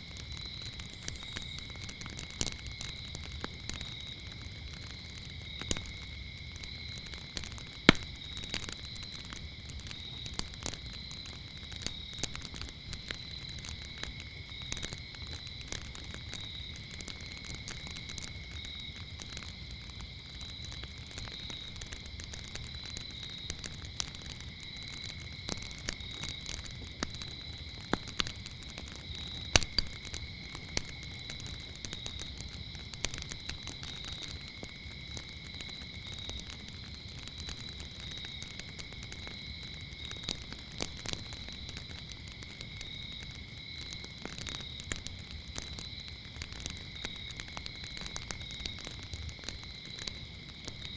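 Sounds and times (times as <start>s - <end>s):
crickets chirping: 0.0s - 50.9s
wood fire crackling and popping: 0.0s - 50.9s.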